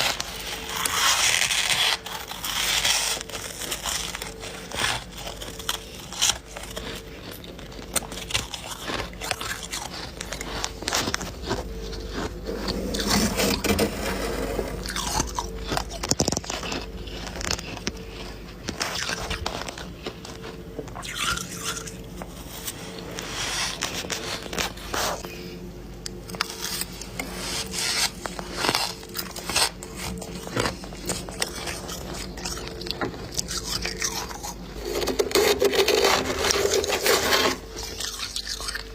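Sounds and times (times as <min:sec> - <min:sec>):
faint steady hum: 0:00.0 - 0:38.9
person chewing crunchy ice: 0:00.0 - 0:38.9.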